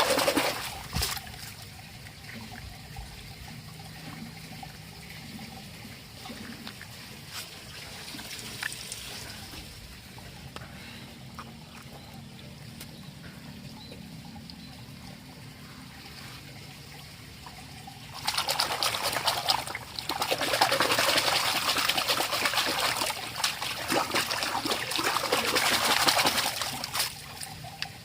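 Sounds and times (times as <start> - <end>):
water trickling: 0.0 - 28.0.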